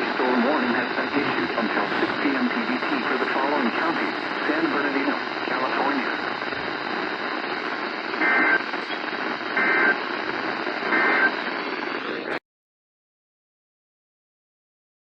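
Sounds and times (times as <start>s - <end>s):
radio hiss: 0.0s - 12.4s.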